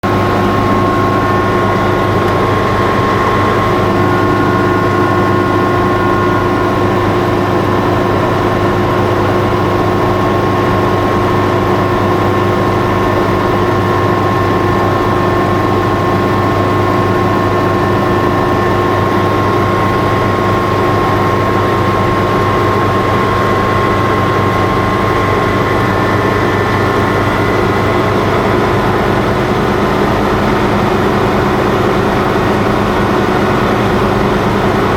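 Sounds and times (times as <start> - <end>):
constant whine: 0.0 - 34.9
helicopter engine and rotor noise: 0.0 - 34.9.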